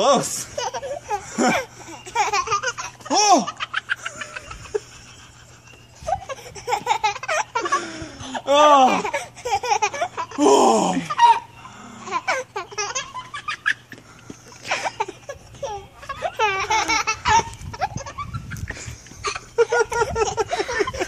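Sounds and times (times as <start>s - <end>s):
toddler laughing: 0.4s - 21.0s.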